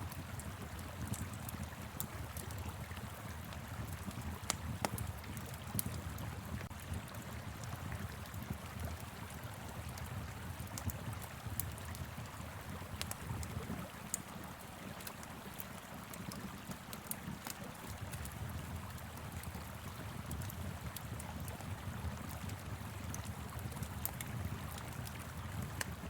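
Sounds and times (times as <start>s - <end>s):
wood fire crackling: 0.1s - 26.0s.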